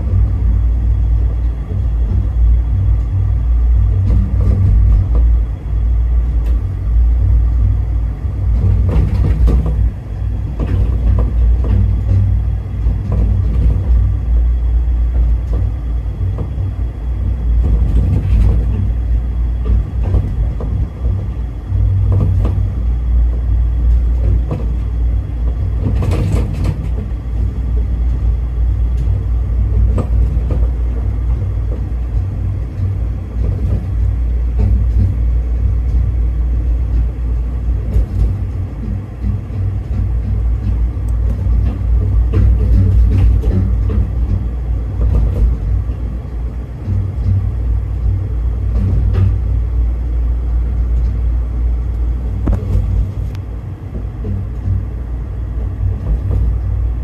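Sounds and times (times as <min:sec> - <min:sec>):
suspended rail car rumbling: 0:00.0 - 0:57.0.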